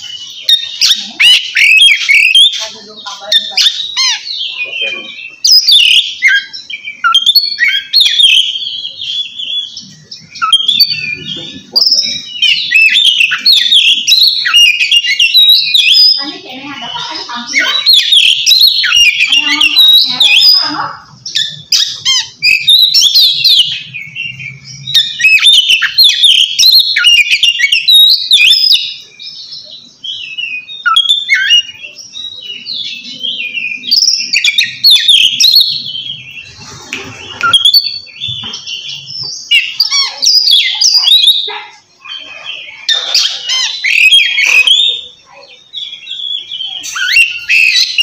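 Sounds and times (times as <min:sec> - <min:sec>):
magpie-robin singing: 0:00.0 - 0:48.0.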